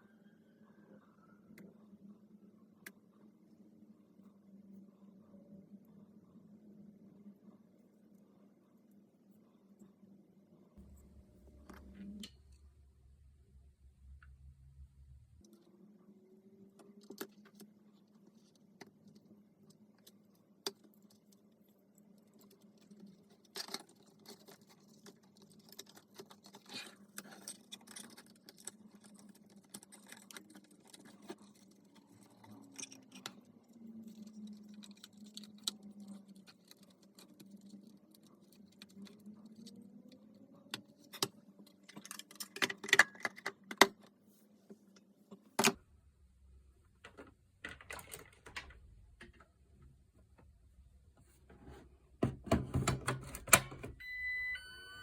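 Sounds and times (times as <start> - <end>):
faint low hum: 0.0 - 42.6, 43.6 - 55.0.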